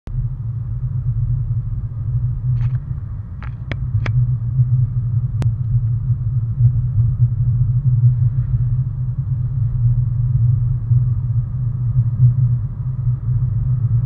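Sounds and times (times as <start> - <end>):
car engine and road noise: 0.1 - 14.0.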